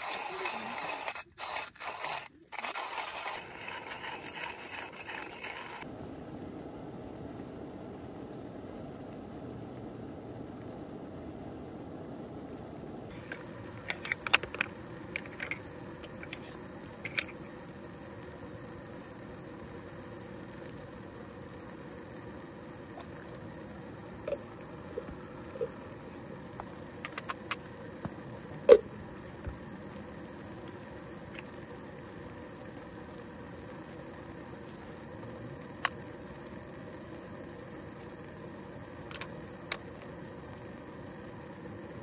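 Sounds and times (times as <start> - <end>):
faint steady hiss: 0.0 - 42.0
gas stove burning: 0.0 - 42.0.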